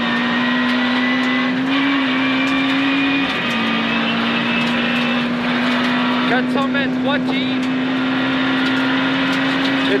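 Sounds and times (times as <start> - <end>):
car engine pulling hard: 0.0 - 10.0
gravel under tyres: 0.0 - 10.0.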